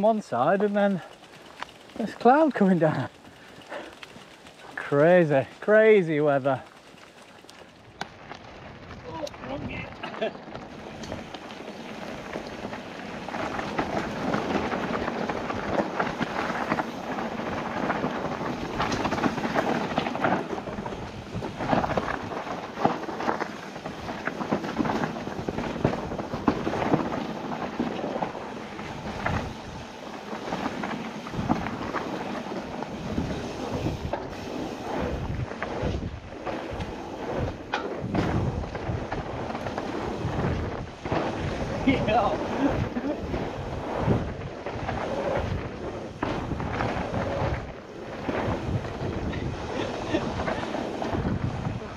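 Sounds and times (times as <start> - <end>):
bike knocks and rattles: 0.0 - 9.2, 10.1 - 51.9
bike tyres rumbling over dirt: 0.0 - 51.9
wind on microphone: 7.9 - 51.9.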